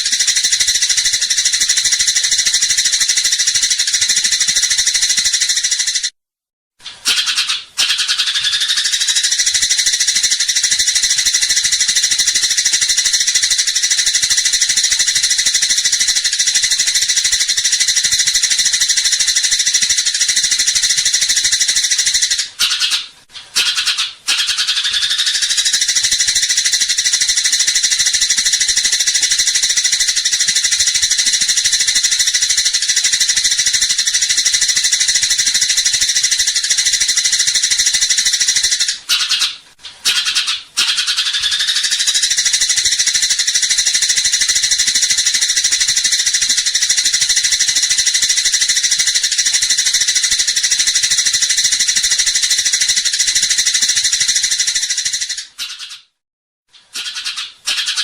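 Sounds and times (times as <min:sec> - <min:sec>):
sparrows chirping rapidly: 0:00.0 - 0:06.1, 0:07.0 - 0:56.0.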